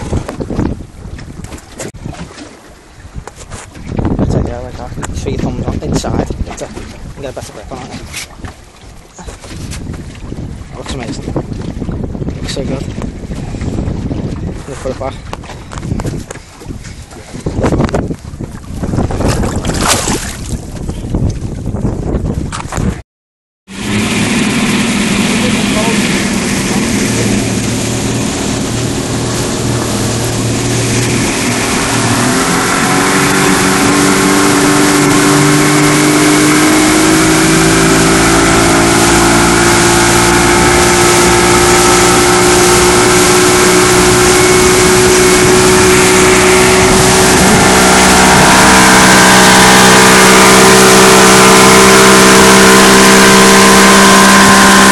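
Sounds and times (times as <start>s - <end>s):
outboard motor running: 0.0s - 23.0s, 23.7s - 54.9s.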